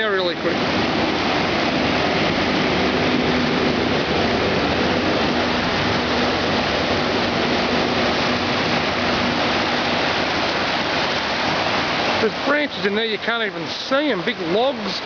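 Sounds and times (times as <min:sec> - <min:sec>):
tractor engine humming: 0:00.0 - 0:12.8
floodwater rushing down a creek: 0:00.0 - 0:15.0.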